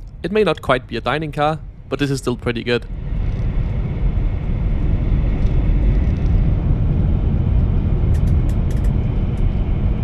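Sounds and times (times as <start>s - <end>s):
train cabin low rumble: 0.0s - 10.0s.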